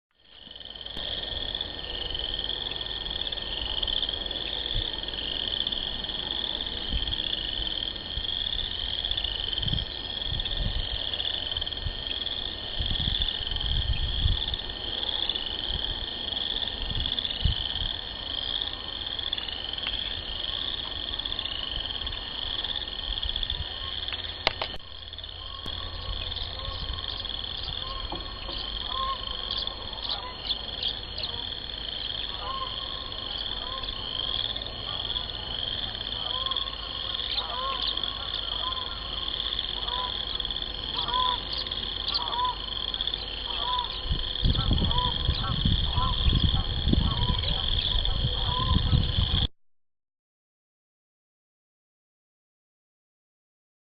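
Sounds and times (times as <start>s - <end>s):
frogs chorus trilling: 0.2s - 49.5s.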